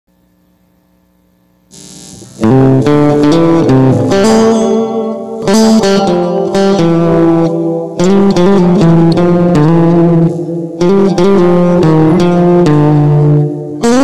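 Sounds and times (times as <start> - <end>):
faint hum: 0.1 - 13.9
electric guitar melody: 1.7 - 14.0.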